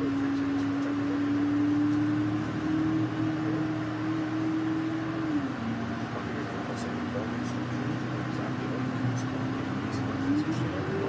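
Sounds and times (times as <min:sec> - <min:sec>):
drivetrain whine: 0:00.0 - 0:11.0
road noise inside bus: 0:00.0 - 0:11.0.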